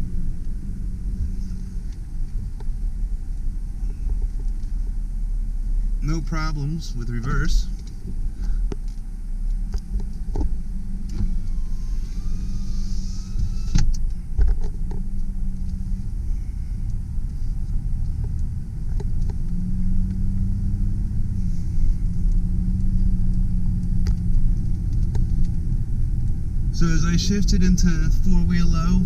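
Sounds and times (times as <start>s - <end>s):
pickup truck engine running: 0.0s - 29.0s.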